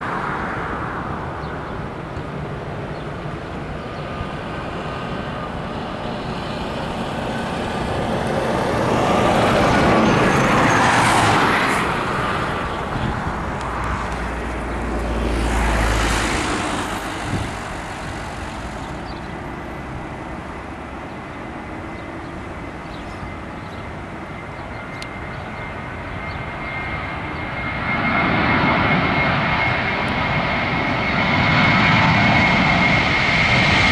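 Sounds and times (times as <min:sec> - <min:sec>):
jet engines roaring: 0:00.0 - 0:33.9.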